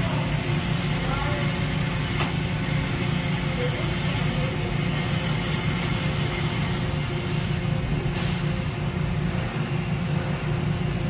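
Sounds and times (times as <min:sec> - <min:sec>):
lathe machine hum: 0:00.0 - 0:10.5.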